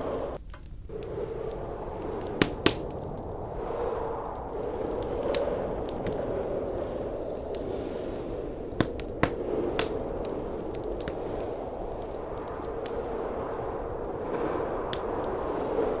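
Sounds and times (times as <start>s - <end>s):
blizzard wind rushing: 0.0s - 16.0s
wood fire crackling and popping: 0.0s - 16.0s.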